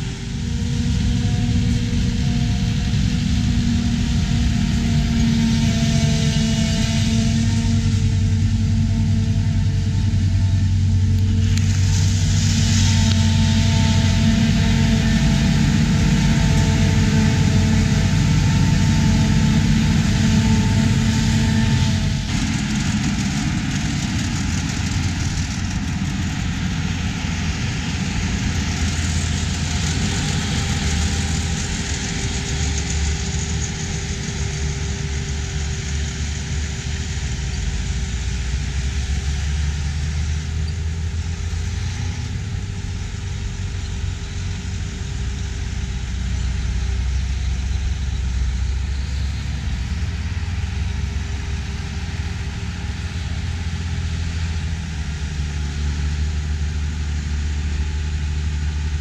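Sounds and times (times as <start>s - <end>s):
harvester engine and machinery: 0.0s - 59.0s.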